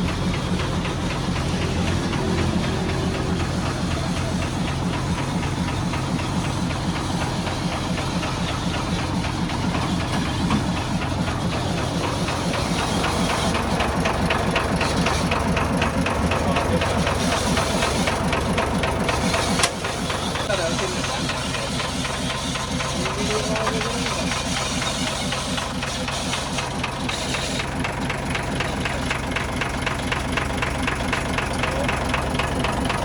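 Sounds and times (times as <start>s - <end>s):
diesel truck engine idling: 0.0s - 33.0s.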